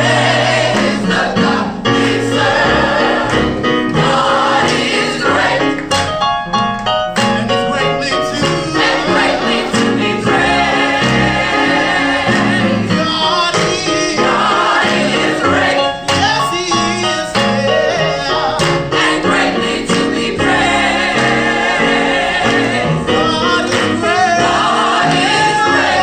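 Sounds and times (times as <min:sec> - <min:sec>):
gospel choir singing: 0:00.0 - 0:06.2, 0:07.6 - 0:26.0
instrumental accompaniment: 0:00.0 - 0:26.0.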